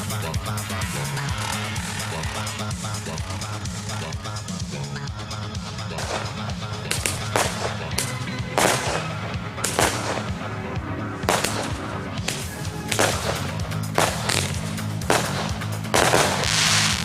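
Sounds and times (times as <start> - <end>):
music with low accompaniment: 0.0 - 17.0.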